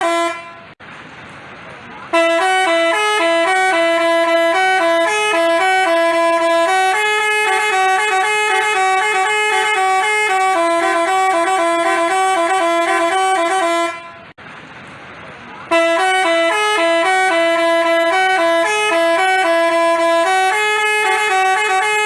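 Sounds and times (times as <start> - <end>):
multi-tone bus horn tune: 0.0 - 0.8, 2.1 - 14.4, 15.7 - 22.0.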